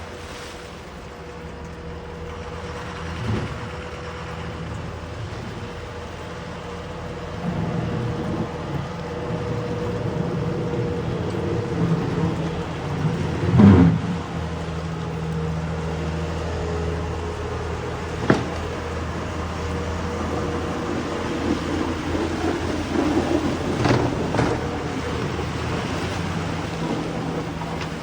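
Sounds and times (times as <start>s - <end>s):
car engine humming: 0.0s - 28.0s.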